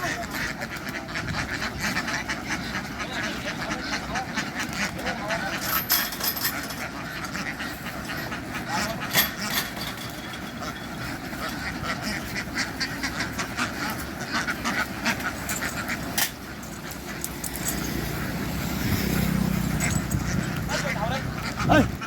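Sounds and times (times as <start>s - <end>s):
flock of ducks quacking: 0.0s - 22.0s.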